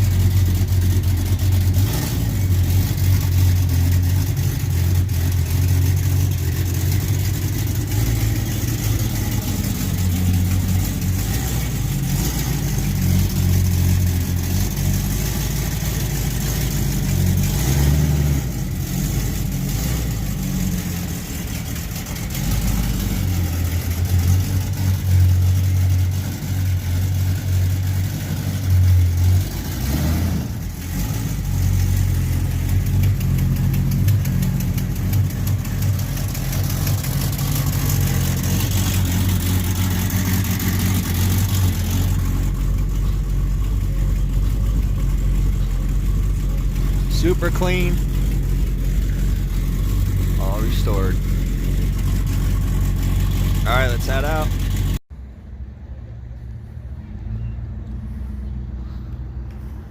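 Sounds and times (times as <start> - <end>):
car engine running: 0.0 - 55.3.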